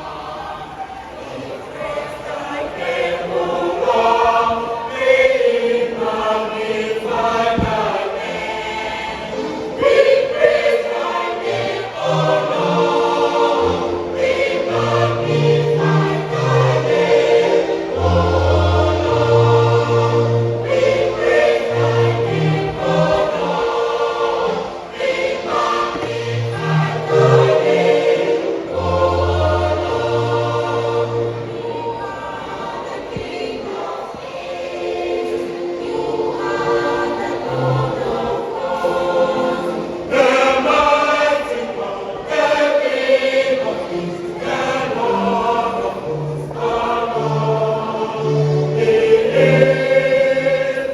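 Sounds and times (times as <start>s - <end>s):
choir singing gospel song: 0.0s - 50.9s.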